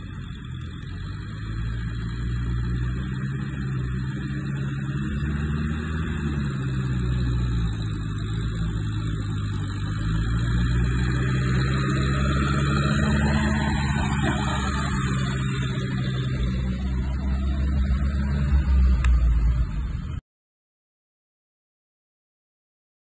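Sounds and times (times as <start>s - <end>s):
tractor engine running: 0.0s - 20.2s.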